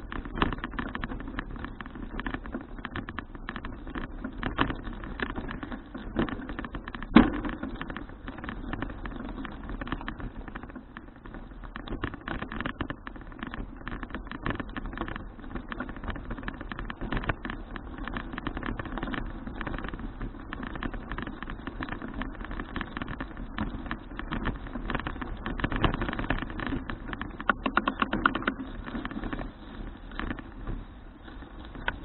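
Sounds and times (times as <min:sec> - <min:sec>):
bicycle clicking and rattling: 0:00.0 - 0:32.0
bicycle riding rumble: 0:00.0 - 0:32.0.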